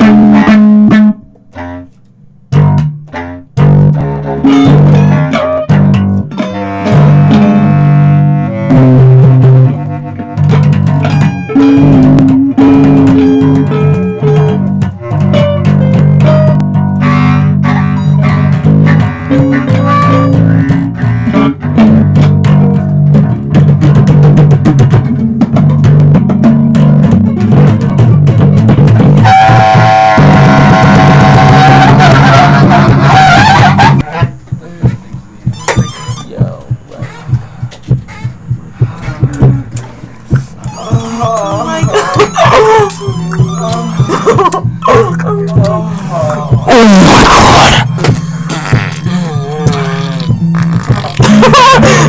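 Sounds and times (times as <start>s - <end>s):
electric bass line: 0.0s - 52.0s
plucked guitar: 0.0s - 52.0s.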